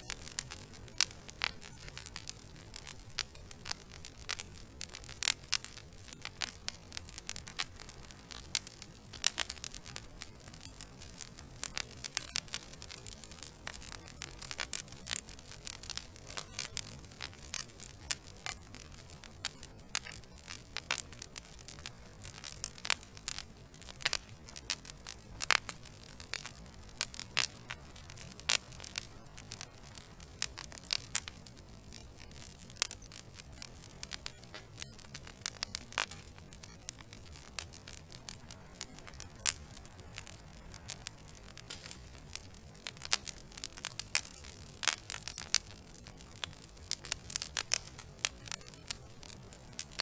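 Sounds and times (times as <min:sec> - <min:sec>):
logs crackling in fireplace: 0:00.0 - 0:50.0
low rumble of flame: 0:00.0 - 0:50.0
sharp pops and snaps: 0:00.0 - 0:50.0.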